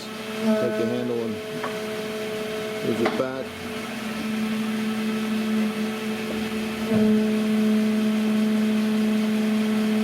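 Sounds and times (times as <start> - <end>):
grinder motor humming: 0.0 - 10.0.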